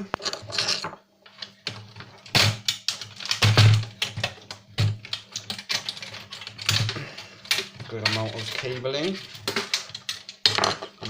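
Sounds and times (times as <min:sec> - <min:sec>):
small plastic parts clicking and rattling: 0:00.0 - 0:11.0.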